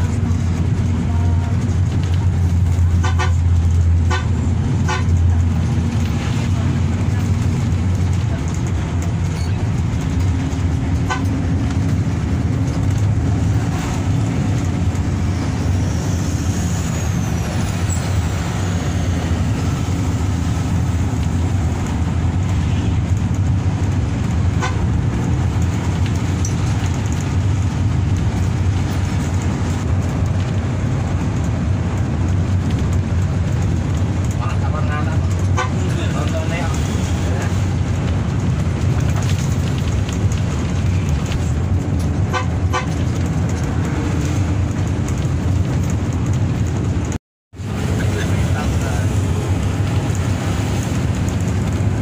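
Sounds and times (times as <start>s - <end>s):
bus engine droning: 0.0s - 52.0s
tyre and road noise: 0.0s - 52.0s.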